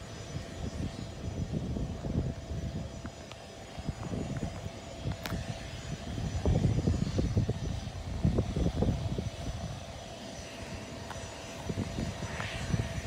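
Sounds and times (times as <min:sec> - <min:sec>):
jet engines whining: 0:00.0 - 0:13.0
wind buffeting microphone: 0:00.0 - 0:13.0.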